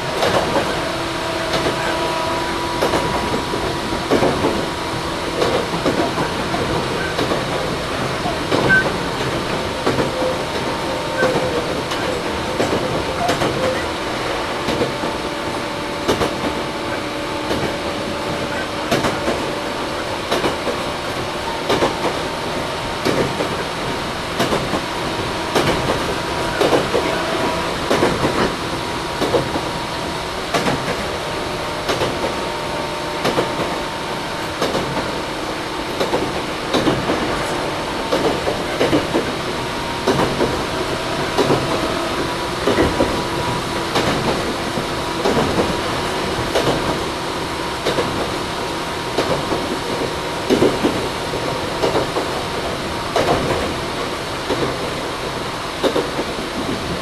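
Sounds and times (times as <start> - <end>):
train rolling noise: 0.0 - 57.0
wheels clattering over rail joints: 0.0 - 57.0.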